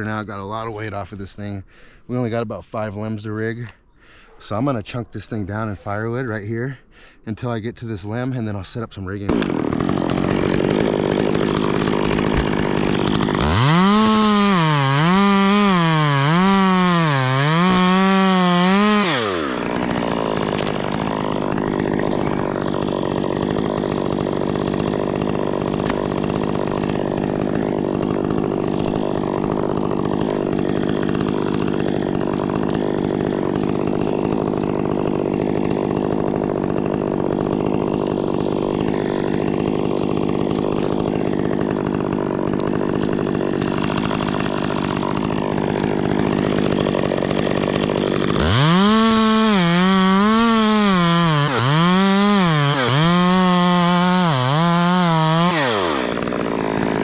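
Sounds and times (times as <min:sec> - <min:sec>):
chainsaw cutting wood: 0:00.0 - 0:01.4, 0:09.2 - 0:57.0.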